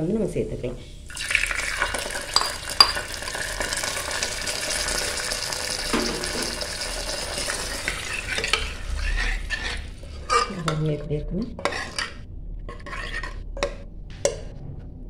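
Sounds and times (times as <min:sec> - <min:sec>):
ghee sizzling: 0:00.8 - 0:10.9, 0:11.6 - 0:14.4
steel ladle stirring: 0:01.1 - 0:05.2, 0:05.8 - 0:11.0, 0:11.6 - 0:14.5.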